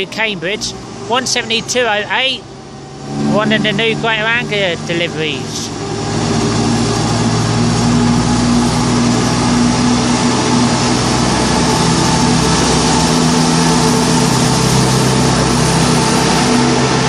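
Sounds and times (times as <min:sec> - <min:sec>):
train diesel engines running: 0:00.0 - 0:17.0.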